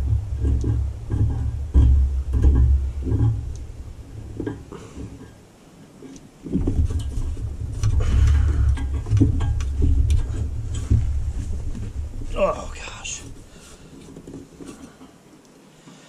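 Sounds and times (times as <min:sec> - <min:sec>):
wind buffeting microphone: 0:00.0 - 0:05.6, 0:06.3 - 0:15.0.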